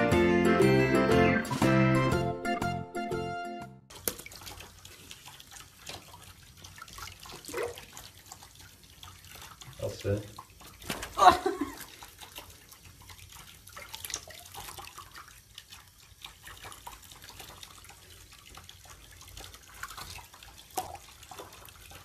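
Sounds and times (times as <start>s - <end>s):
water dripping and splashing: 3.9s - 22.0s.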